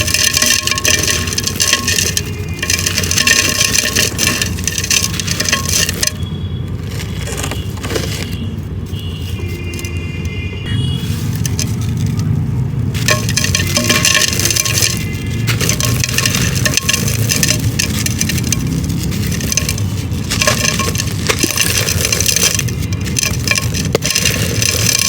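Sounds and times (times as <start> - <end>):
dried clay crumbling by hand: 0.0 - 9.9, 11.1 - 25.0.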